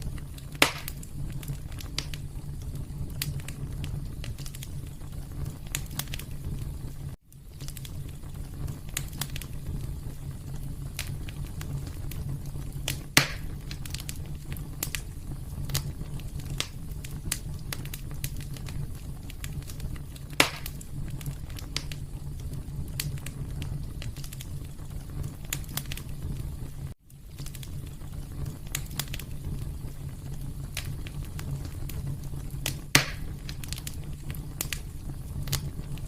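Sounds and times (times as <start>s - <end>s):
loud fire pops: 0.0s - 36.0s
wood fire crackling: 0.0s - 36.0s.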